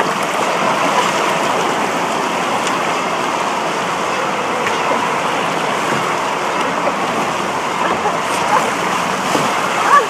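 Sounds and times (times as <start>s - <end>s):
rushing and splashing water: 0.0s - 10.0s.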